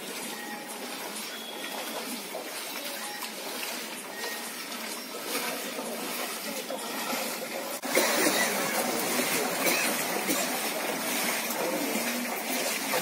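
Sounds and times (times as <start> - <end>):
faint voices: 1.7 - 13.0.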